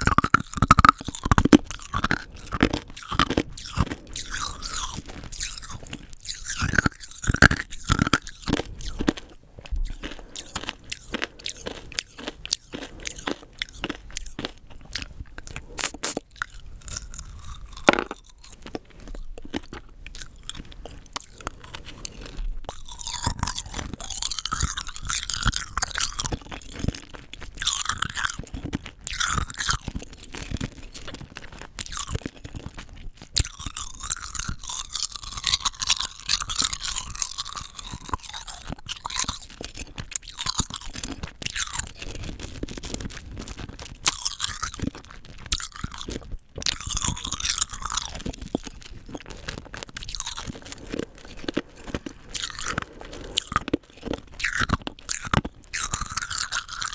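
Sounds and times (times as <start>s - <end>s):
hard candy crunching: 0.0s - 56.9s
wet chewing: 0.0s - 56.9s.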